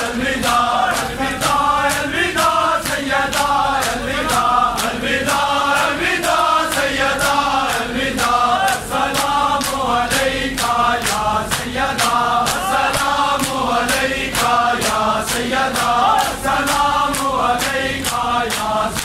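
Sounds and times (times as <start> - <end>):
crowd of men chanting: 0.0 - 19.0
rhythmic chest-beating slaps: 0.0 - 19.0.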